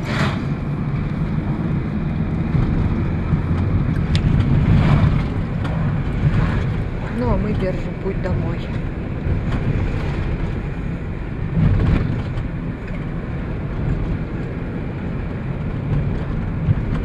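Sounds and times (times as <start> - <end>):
van engine and tyres on road: 0.0 - 17.0.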